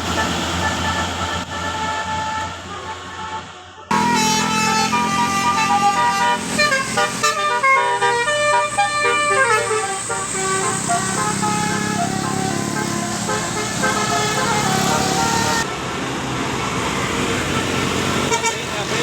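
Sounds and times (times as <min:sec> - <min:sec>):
musical air horn melody: 0:00.1 - 0:15.7.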